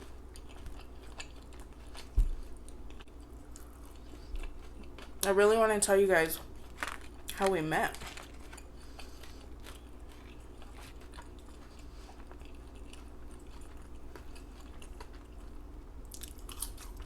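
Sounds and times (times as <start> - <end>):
chewing food: 0.0 - 5.4, 6.3 - 17.0.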